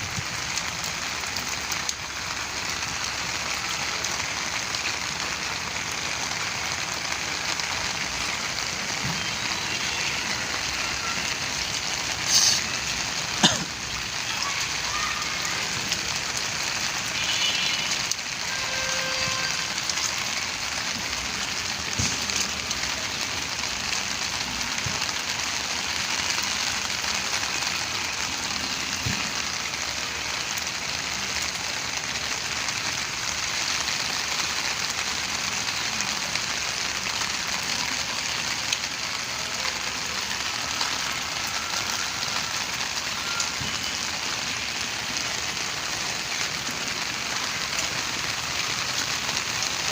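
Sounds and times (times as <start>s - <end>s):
rain falling on a rooftop: 0.0s - 49.9s.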